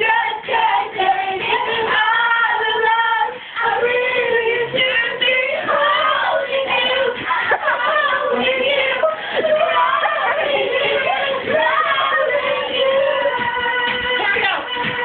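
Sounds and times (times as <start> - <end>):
high voice singing with music: 0.0 - 15.0.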